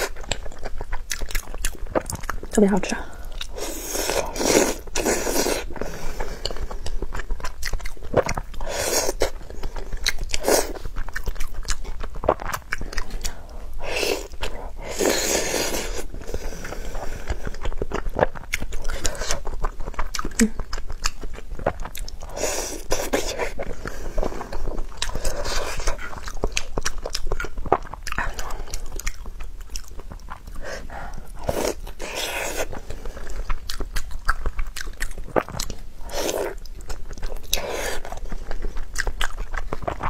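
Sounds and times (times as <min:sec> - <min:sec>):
wet chewing: 0:00.0 - 0:40.0.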